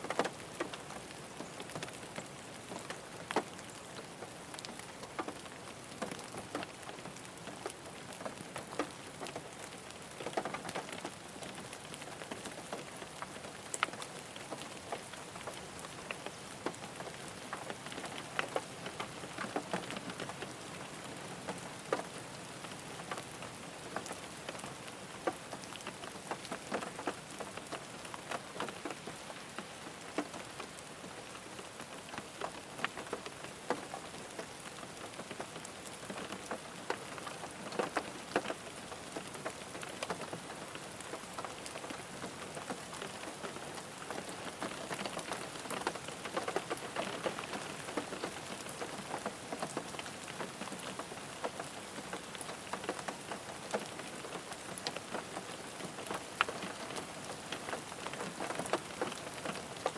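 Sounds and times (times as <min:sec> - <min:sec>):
rain pattering on a car: 0:00.0 - 0:59.9.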